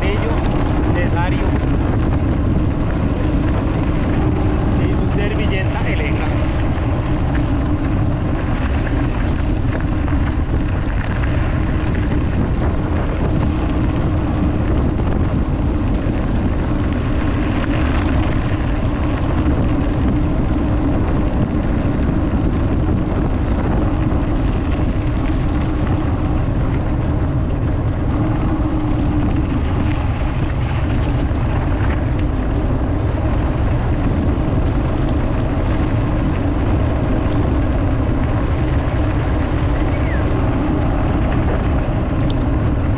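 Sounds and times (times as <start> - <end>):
bike tyres rolling: 0.0 - 42.9
wind buffeting microphone: 0.0 - 42.9.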